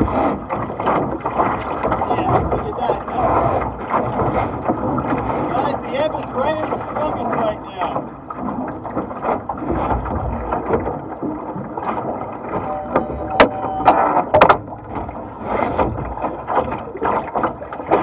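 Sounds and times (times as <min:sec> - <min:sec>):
sharp knocks of boat gear: 0:00.0 - 0:05.6, 0:07.0 - 0:18.0
water splashing along boat hull: 0:00.0 - 0:18.0.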